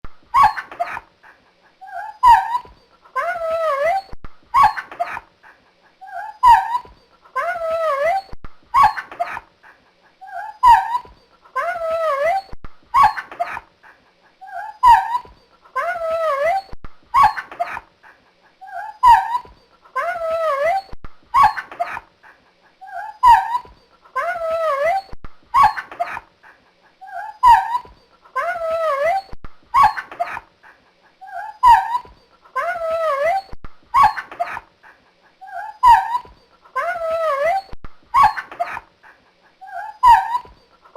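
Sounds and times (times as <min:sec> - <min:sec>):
dog whining: 0:00.3 - 0:01.1, 0:01.8 - 0:05.3, 0:06.0 - 0:09.5, 0:10.2 - 0:13.7, 0:14.4 - 0:17.9, 0:18.6 - 0:22.1, 0:22.8 - 0:26.3, 0:27.0 - 0:30.5, 0:31.2 - 0:34.7, 0:35.4 - 0:38.9, 0:39.6 - 0:40.9
dog yelping: 0:00.3 - 0:01.1, 0:01.8 - 0:05.3, 0:06.0 - 0:09.5, 0:10.2 - 0:13.7, 0:14.4 - 0:17.9, 0:18.6 - 0:22.1, 0:22.8 - 0:26.3, 0:27.0 - 0:30.5, 0:31.2 - 0:34.7, 0:35.4 - 0:38.9, 0:39.6 - 0:40.9.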